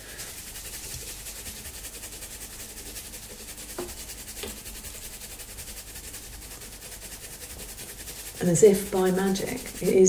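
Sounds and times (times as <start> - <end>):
toothbrush scrubbing wire: 0.0 - 10.0.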